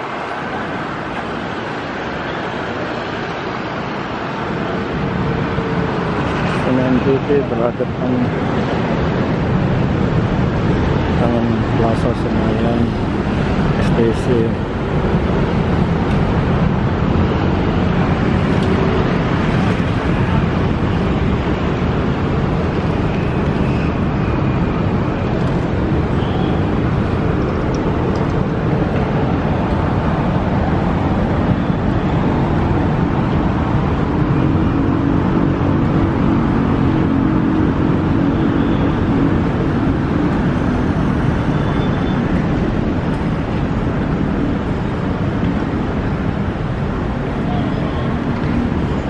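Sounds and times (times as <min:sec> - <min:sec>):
road traffic noise: 0:00.0 - 0:49.0
low engine hum: 0:04.6 - 0:49.0.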